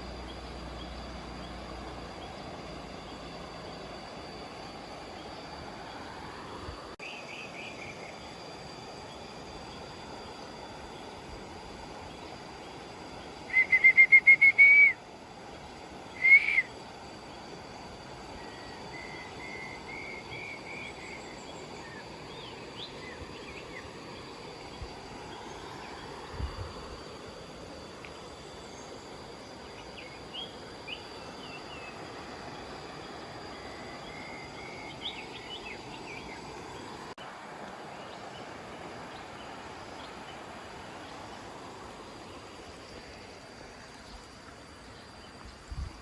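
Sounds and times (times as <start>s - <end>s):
high insect drone: 0.0s - 46.0s
rural background hiss: 0.0s - 46.0s.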